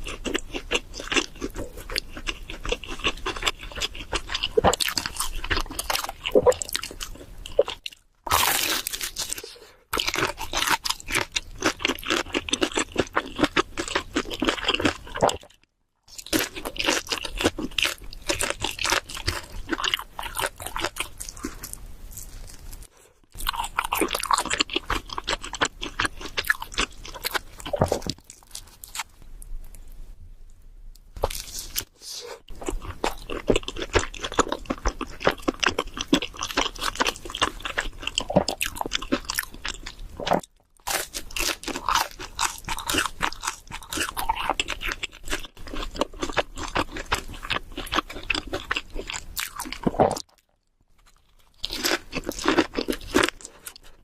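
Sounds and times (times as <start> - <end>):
wet chewing and smacking: 0.0 - 22.6, 32.5 - 54.0.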